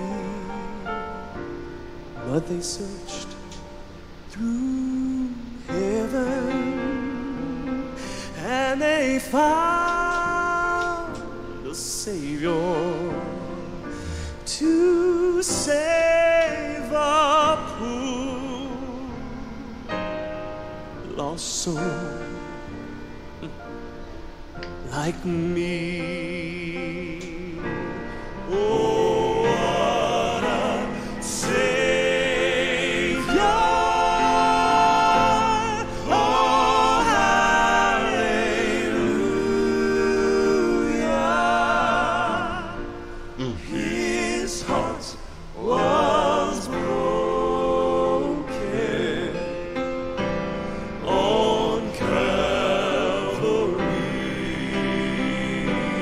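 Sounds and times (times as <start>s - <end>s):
male vocal quartet singing: 0.0s - 20.3s, 21.0s - 23.8s, 24.4s - 56.0s
piano accompaniment: 0.0s - 56.0s.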